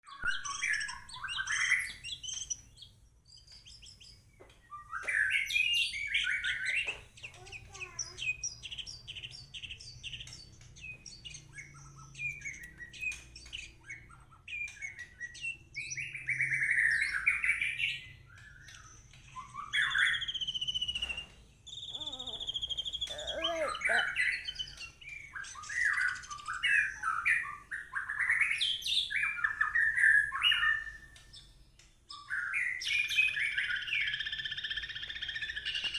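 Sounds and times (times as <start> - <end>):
songbird whistles and trills: 0.1 - 31.5, 32.1 - 35.9.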